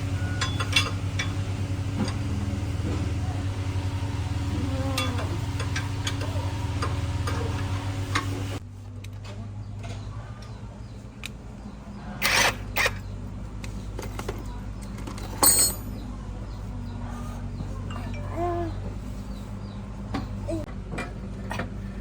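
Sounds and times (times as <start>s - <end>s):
pulsing engine hum: 0.0s - 22.0s.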